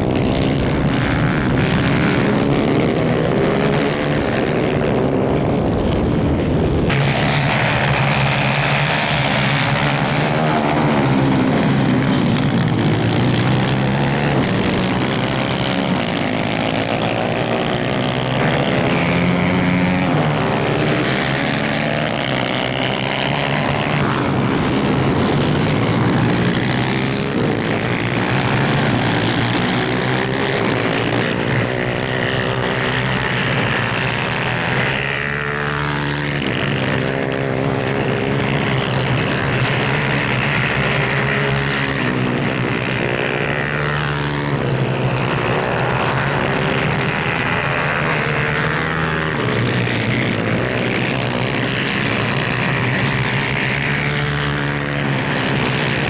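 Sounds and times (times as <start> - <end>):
kart engines racing: 0.0 - 56.0.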